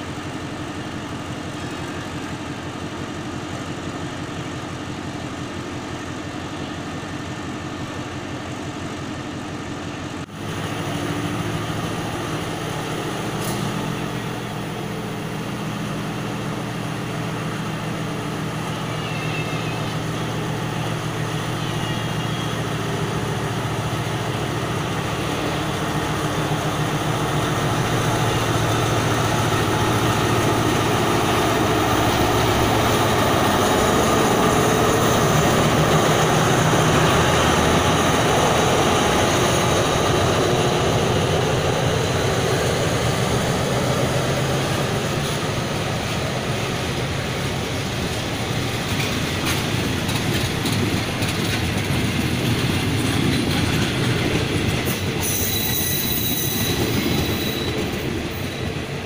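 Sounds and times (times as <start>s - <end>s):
diesel locomotive engine hum: 0.0s - 59.0s
train coaches rolling past: 0.0s - 59.0s.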